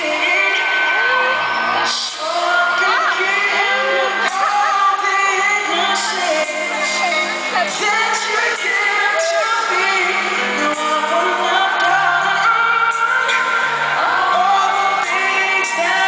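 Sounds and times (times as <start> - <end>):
male singer with band: 0.0 - 16.0.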